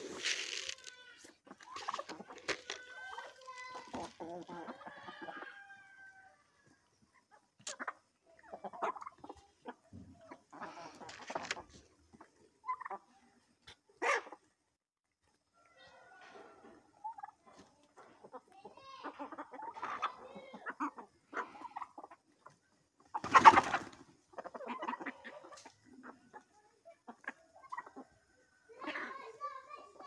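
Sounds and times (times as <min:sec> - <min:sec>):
chickens clucking: 0:00.0 - 0:14.6, 0:15.2 - 0:30.0.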